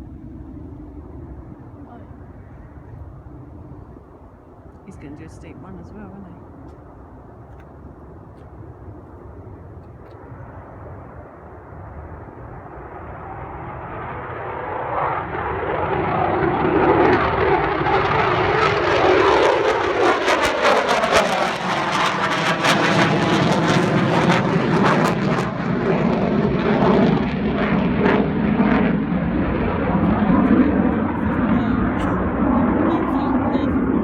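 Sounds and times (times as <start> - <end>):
fighter jet engines roaring: 0.0 - 34.0.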